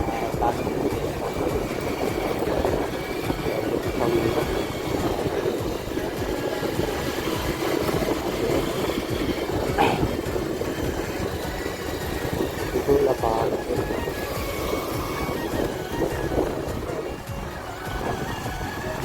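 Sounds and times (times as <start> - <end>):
vehicle road rumble: 0.0 - 19.0.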